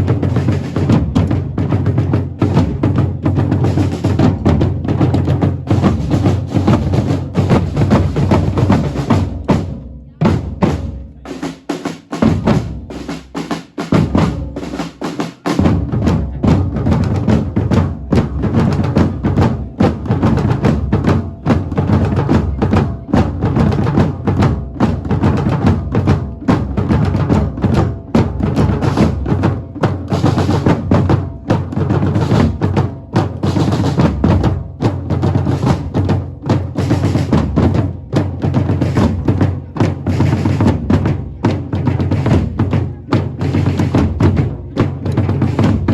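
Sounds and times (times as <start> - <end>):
deep drum beats: 0.0 - 45.9
fast drumming: 0.0 - 45.9.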